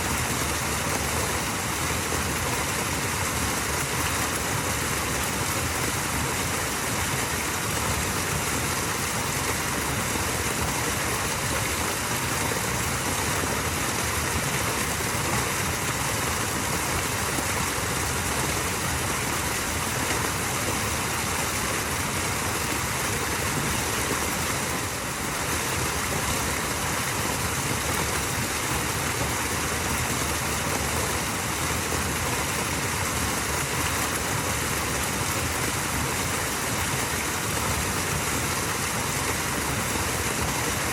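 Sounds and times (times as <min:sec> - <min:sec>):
small waterfall rushing: 0:00.0 - 0:40.9.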